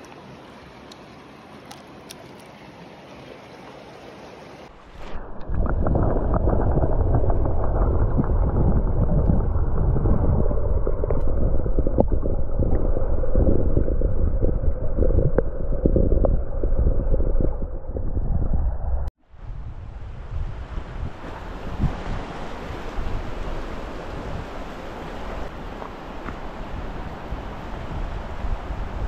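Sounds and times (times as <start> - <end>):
underwater river rush: 0.0 - 29.0.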